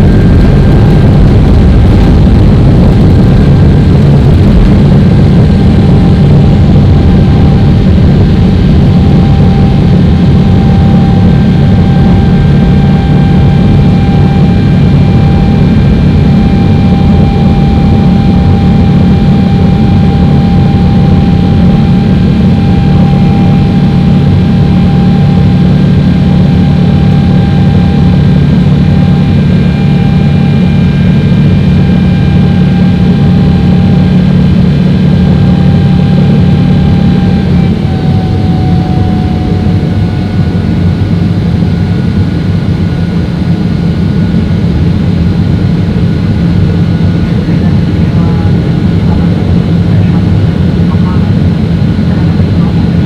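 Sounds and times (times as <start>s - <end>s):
faint engine whine: 0.0s - 53.0s
jet engine low rumble: 0.0s - 53.0s.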